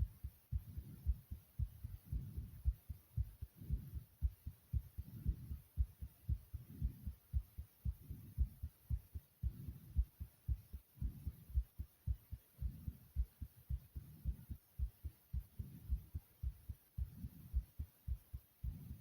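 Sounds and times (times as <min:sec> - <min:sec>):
heartbeat thumps: 0:00.0 - 0:19.0.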